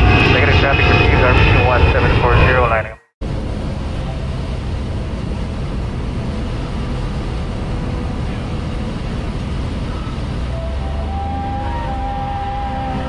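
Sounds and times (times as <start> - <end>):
aircraft engine and propeller drone: 0.0 - 13.0
airflow noise: 0.0 - 13.0.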